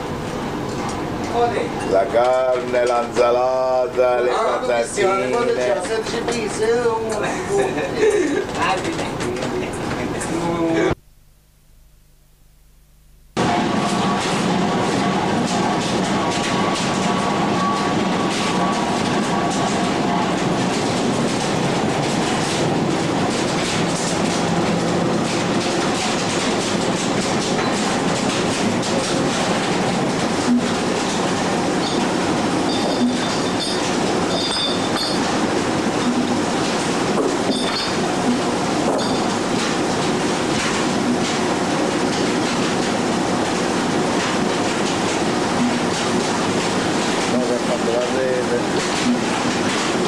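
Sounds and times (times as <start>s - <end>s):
ship machinery running: 0.0s - 50.0s.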